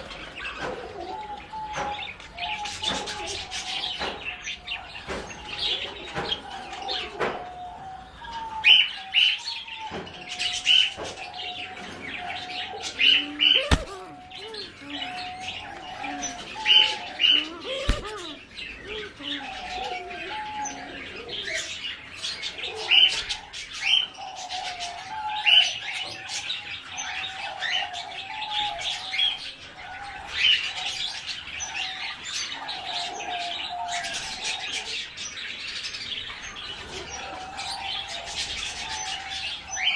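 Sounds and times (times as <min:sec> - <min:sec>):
birds warbling chatter: 0:00.0 - 0:39.9.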